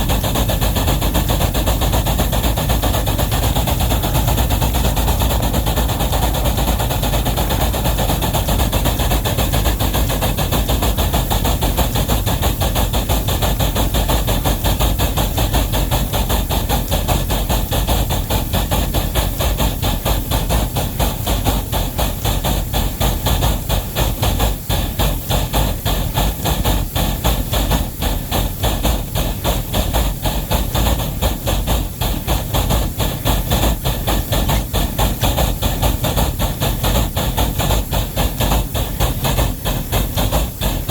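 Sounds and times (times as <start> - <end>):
steam hissing: 0.0 - 40.9
steam locomotive exhaust beats: 0.0 - 40.9.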